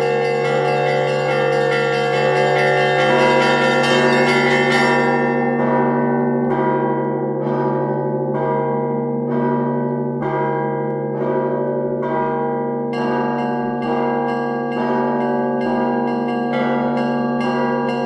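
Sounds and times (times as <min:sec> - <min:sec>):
church bell strokes: 0:00.0 - 0:18.0
deep bell hum: 0:00.0 - 0:18.0.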